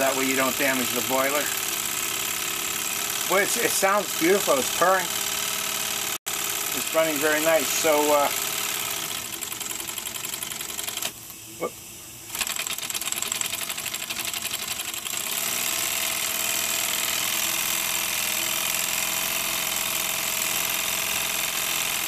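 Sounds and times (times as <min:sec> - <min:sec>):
toy steam engine chuffing: 0:00.0 - 0:11.2, 0:12.3 - 0:22.0.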